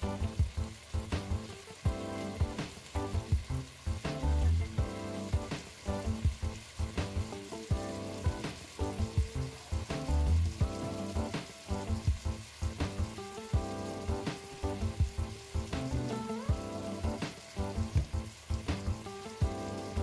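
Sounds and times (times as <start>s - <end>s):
background music with steady beat: 0.0s - 20.0s
chicken sizzling in a pan: 0.0s - 20.0s.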